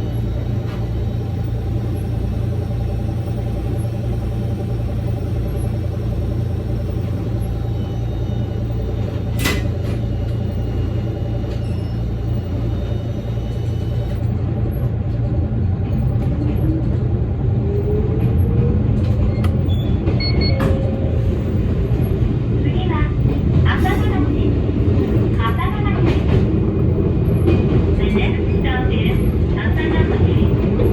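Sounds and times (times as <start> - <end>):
electric train rumbling: 0.0 - 30.9.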